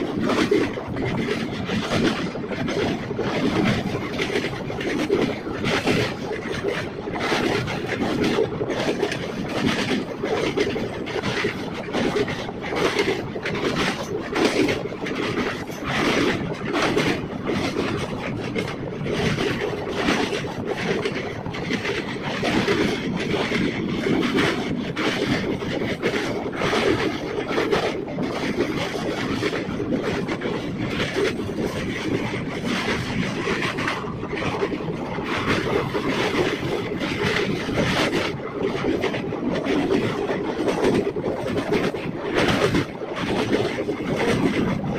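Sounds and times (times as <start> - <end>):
train wheels rumbling on track: 0.0 - 44.9
wheels clacking on rails: 0.0 - 44.9
wind buffeting microphone: 0.0 - 44.9.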